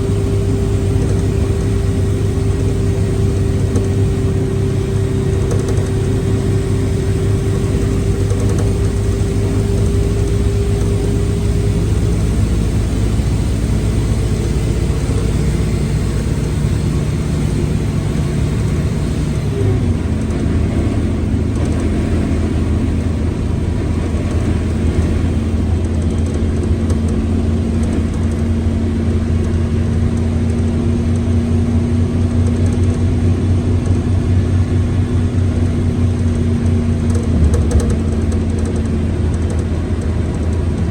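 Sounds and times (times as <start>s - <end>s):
gearbox whine: 0.0s - 30.3s, 31.6s - 40.9s
bus diesel engine running: 0.0s - 40.9s.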